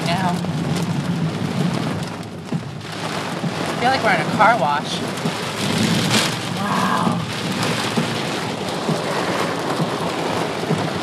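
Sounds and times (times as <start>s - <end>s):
heavy rain on a car roof: 0.0s - 11.0s.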